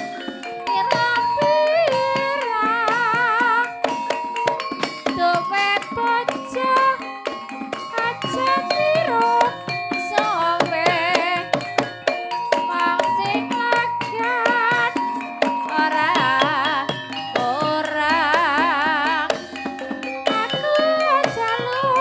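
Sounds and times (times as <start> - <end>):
high singing voice with vibrato: 0.0 - 4.2, 5.0 - 11.9, 12.6 - 22.0
metallophone notes: 0.0 - 22.0.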